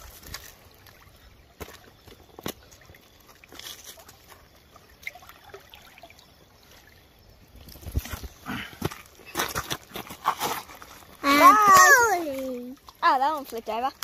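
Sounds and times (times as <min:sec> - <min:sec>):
faint trickling water: 0:00.0 - 0:09.1, 0:10.7 - 0:14.0.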